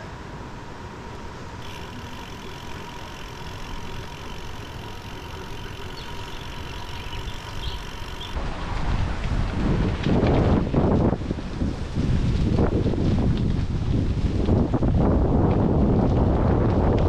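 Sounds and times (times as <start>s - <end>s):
bicycle tyres rolling on gravel: 1.6s - 17.0s.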